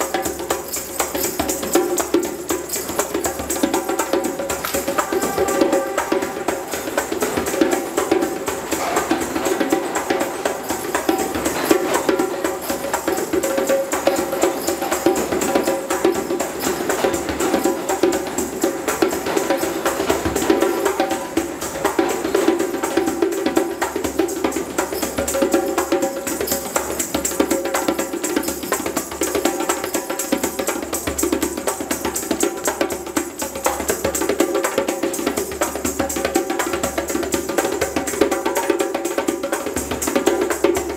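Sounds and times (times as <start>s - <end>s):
djembe drumming: 0.0s - 40.9s.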